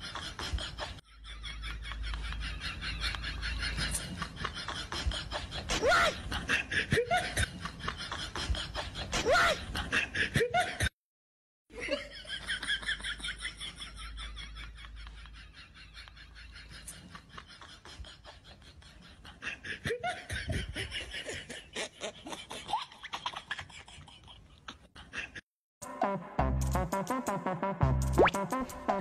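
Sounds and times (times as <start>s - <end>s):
laughter: 0.0s - 10.9s, 11.7s - 25.5s.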